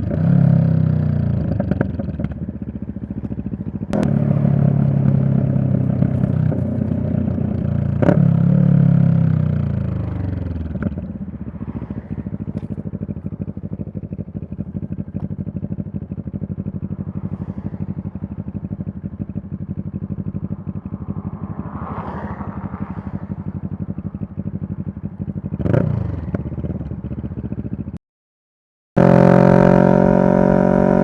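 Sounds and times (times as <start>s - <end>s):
motorcycle engine running: 0.0s - 28.0s, 29.0s - 31.0s.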